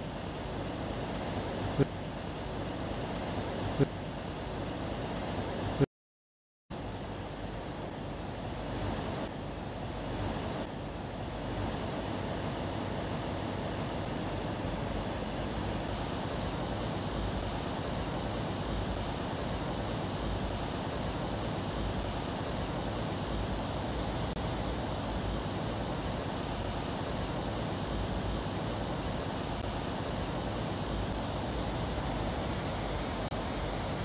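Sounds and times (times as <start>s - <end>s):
steady rushing noise: 6.8s - 34.0s.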